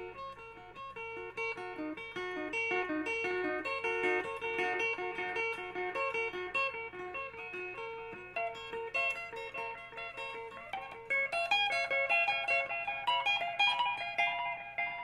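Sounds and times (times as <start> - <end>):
electric guitar notes with echo: 0.0 - 15.0.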